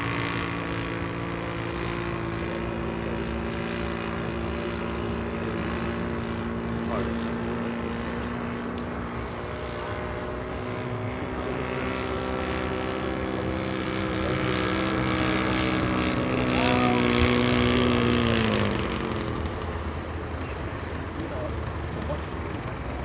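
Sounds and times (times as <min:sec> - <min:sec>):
model aircraft engine droning: 0:00.0 - 0:23.0.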